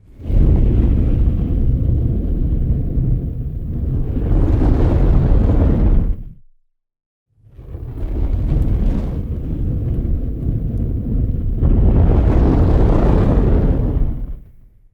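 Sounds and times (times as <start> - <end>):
large fire rumbling: 0.0 - 6.4, 7.4 - 14.9
faint fire crackles: 0.1 - 6.3, 7.5 - 14.8.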